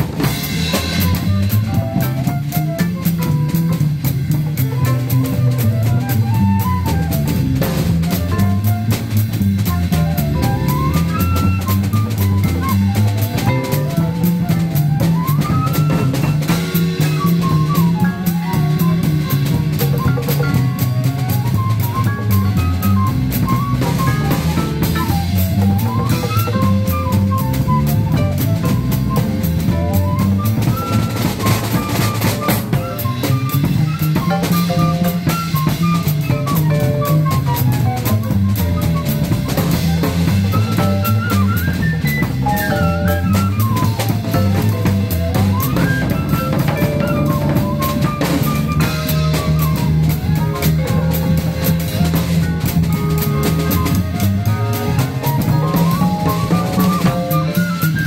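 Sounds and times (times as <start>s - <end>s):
bass line: 0.0s - 58.0s
drum kit on cymbals and drums: 0.0s - 58.0s
quick melodic runs: 7.0s - 58.0s.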